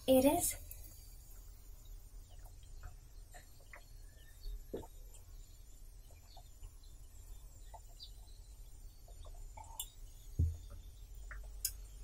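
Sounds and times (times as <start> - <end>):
soft chirps and clicks: 0.6 - 12.0.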